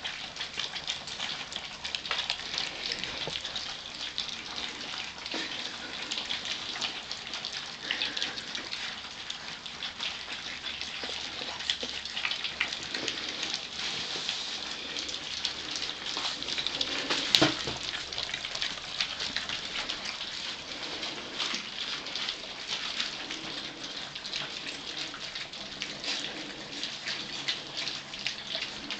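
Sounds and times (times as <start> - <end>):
puppies lapping and chewing: 0.0 - 28.9.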